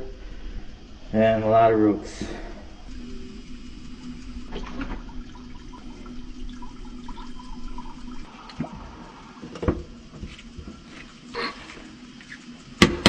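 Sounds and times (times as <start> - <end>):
water rushing through drain: 1.8 - 12.8.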